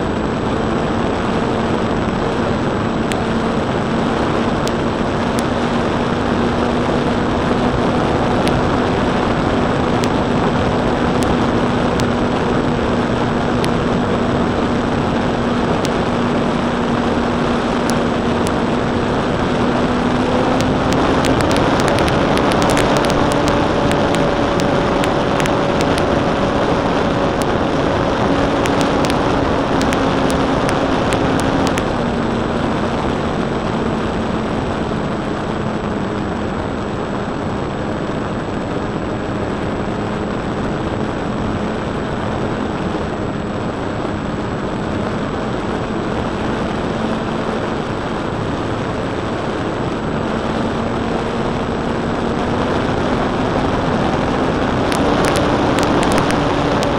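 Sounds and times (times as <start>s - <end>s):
wind rush over microphone: 0.0s - 56.9s.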